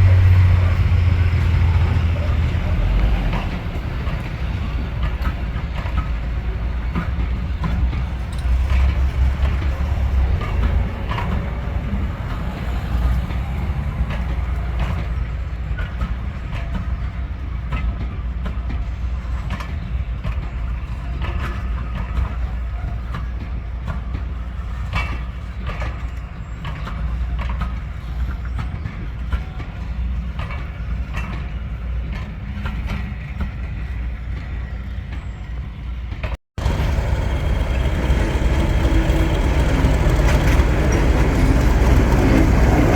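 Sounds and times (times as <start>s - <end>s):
wheels clicking over rail joints: 0.0s - 35.4s, 36.1s - 42.9s
train rumbling: 0.0s - 42.9s.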